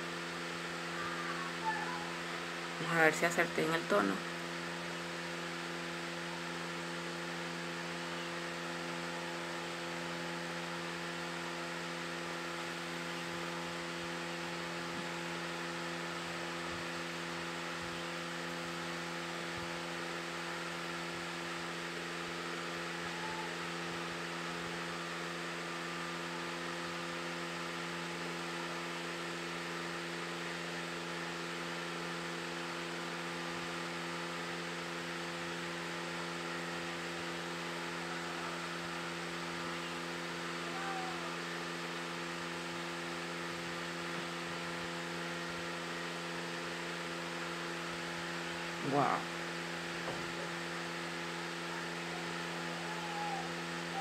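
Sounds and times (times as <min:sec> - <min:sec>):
steady low hum with hiss: 0:00.0 - 0:54.0.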